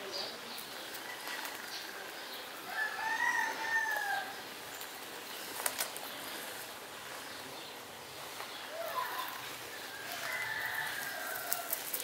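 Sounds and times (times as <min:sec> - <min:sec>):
drawn-out bird call: 0:00.0 - 0:12.0.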